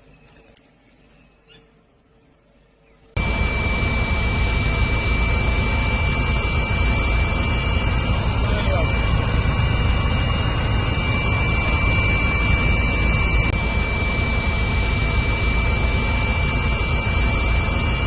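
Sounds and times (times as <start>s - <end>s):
helicopter engine and rotor drone: 3.2s - 18.0s
thin high whine: 3.2s - 18.0s.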